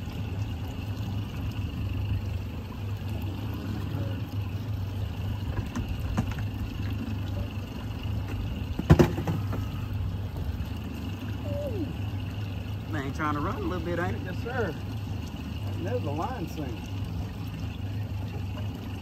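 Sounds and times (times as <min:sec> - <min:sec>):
outboard motor idling: 0:00.0 - 0:19.0
water noise: 0:00.0 - 0:19.0
wind: 0:00.0 - 0:19.0.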